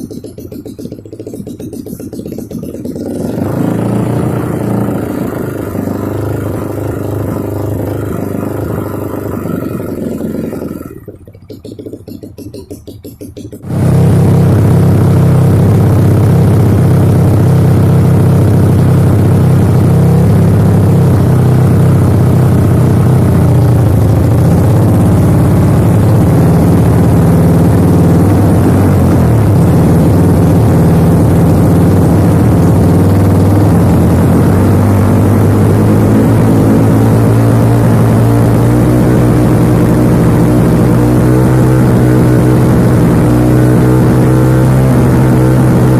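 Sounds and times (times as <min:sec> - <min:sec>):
motorbike engine running: 0:00.0 - 0:45.9.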